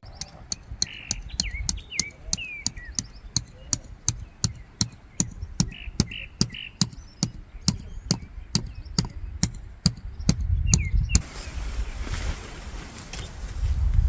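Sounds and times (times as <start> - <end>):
sharp knocks: 0.0 - 11.3.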